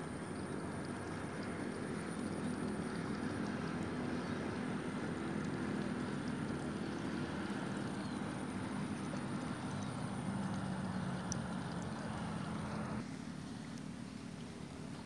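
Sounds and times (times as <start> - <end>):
small engine humming: 0.1 - 13.0.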